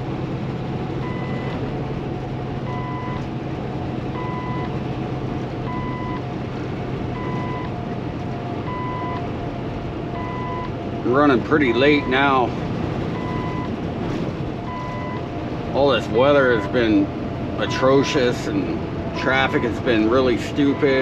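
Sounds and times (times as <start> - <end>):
road noise: 0.0 - 21.0
truck engine drone: 0.0 - 21.0.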